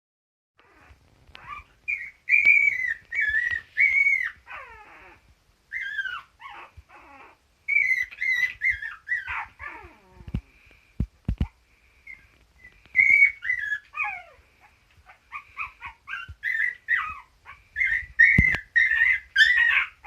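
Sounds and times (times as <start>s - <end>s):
dog whining: 0.6s - 10.5s, 11.4s - 20.0s.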